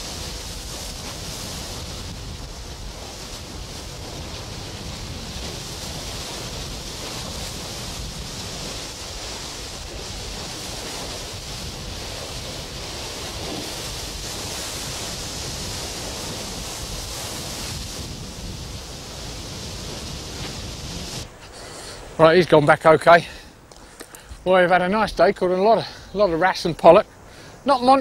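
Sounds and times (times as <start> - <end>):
surf washing against rocks: 0.0 - 28.0.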